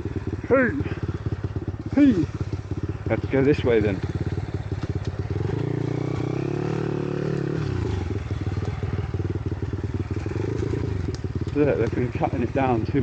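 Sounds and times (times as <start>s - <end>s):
small motorbike engine revving: 0.0s - 13.0s.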